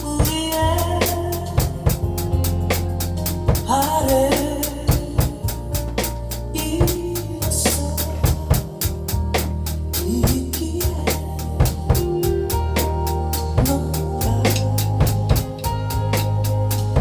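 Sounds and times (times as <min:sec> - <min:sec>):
drum kit playing steady beat: 0:00.0 - 0:17.0
recorded music with bass line: 0:00.0 - 0:17.0.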